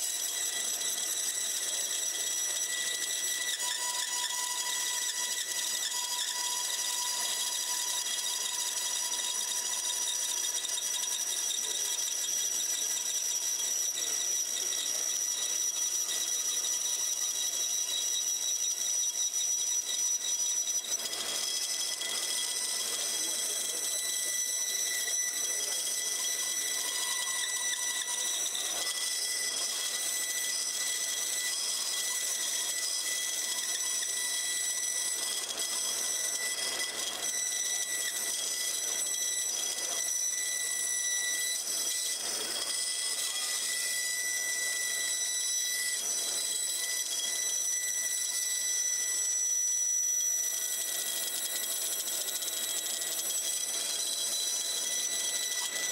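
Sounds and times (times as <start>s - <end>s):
bandsaw cutting wood: 0.0s - 45.0s.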